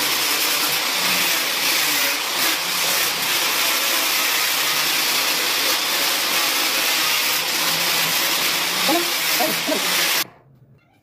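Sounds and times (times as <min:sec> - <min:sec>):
angle grinder grinding plywood: 0:00.0 - 0:10.3.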